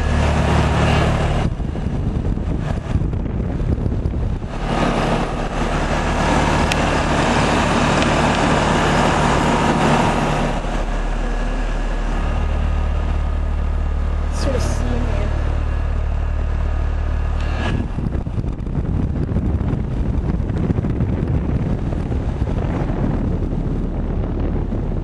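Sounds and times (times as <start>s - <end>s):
air conditioner running: 0.0s - 25.0s.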